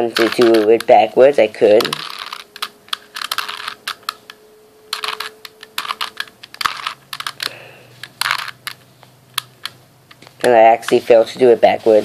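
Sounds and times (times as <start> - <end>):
puzzle cube clicking: 0.0 - 11.1.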